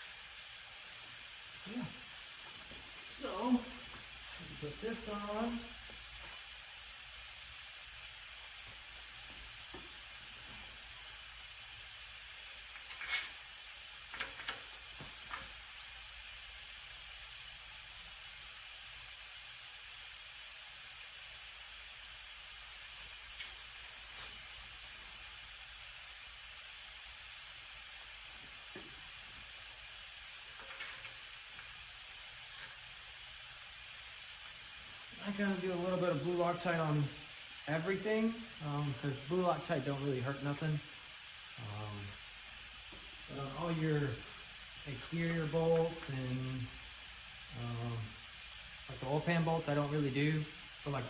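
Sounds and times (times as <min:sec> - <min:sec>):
steady high hiss: 0:00.0 - 0:51.0.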